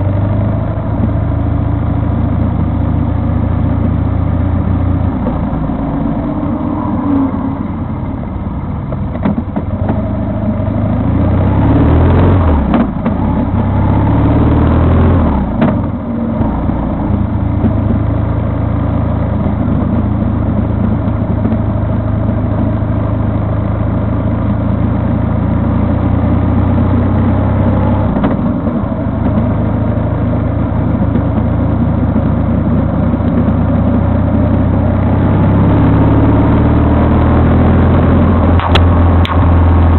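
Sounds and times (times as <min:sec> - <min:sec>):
vehicle engine accelerating: 0:00.0 - 0:39.9.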